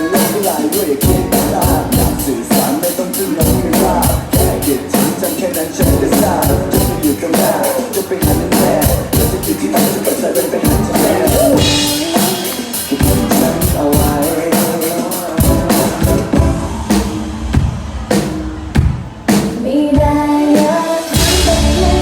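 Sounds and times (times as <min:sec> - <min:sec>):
melodic instrumental line: 0:00.0 - 0:19.0
drum-kit beat: 0:00.0 - 0:22.0.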